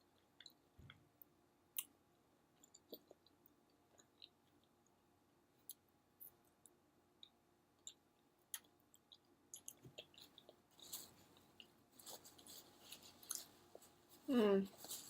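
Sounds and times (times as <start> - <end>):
person chewing food: 0.0 - 1.0, 1.7 - 5.0, 5.6 - 14.0.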